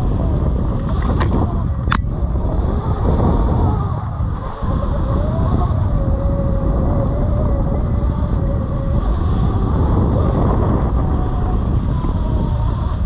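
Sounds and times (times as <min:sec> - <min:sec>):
electric motor whine: 0:00.0 - 0:13.0
trail rumble: 0:00.0 - 0:13.0
wind buffeting microphone: 0:00.0 - 0:13.0.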